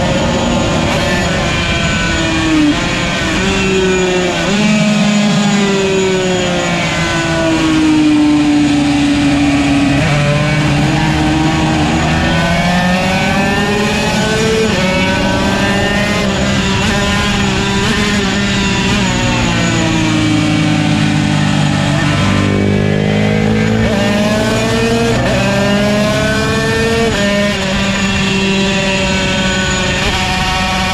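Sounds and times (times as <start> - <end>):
two-stroke racing engine revving: 0.0 - 30.9.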